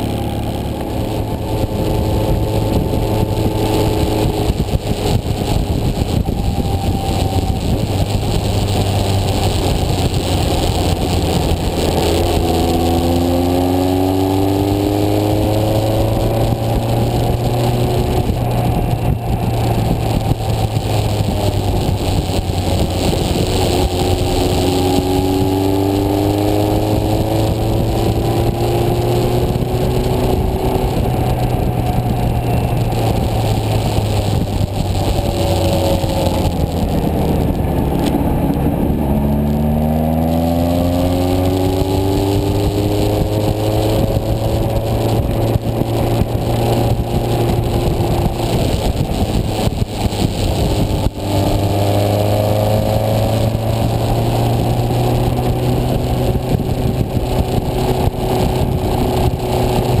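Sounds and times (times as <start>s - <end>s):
motorcycle engine running: 0.0s - 60.0s
wind noise: 0.0s - 60.0s.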